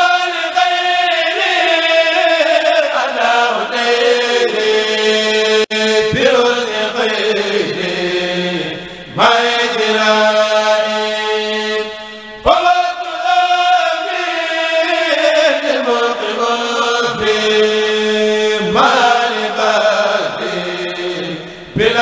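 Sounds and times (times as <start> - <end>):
men chanting into microphones: 0.0 - 22.0.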